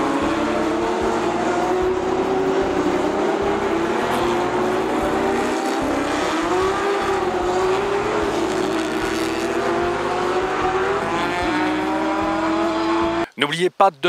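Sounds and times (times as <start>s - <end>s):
racing cars driving past: 0.0s - 13.3s.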